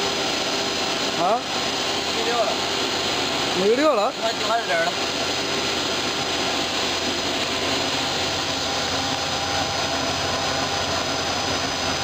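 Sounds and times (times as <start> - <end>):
extrusion machine hum and hiss: 0.0 - 12.0.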